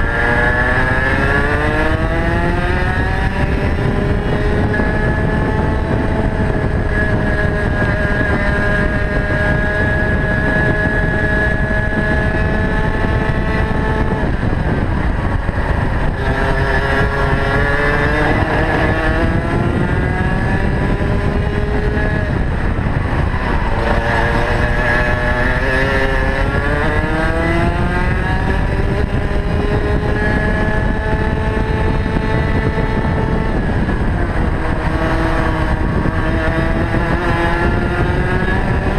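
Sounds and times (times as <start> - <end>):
kart engine revving: 0.0 - 38.9
steady low rumble: 1.6 - 38.9.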